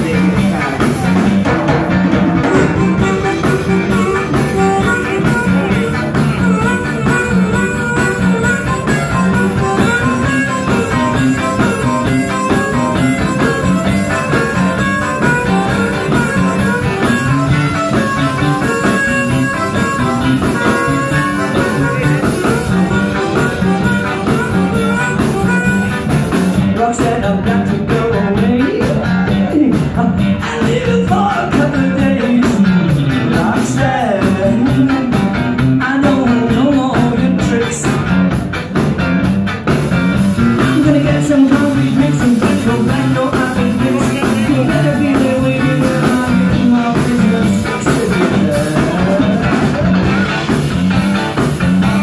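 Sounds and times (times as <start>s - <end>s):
drum kit: 0.0s - 52.0s
electric guitars: 0.0s - 52.0s.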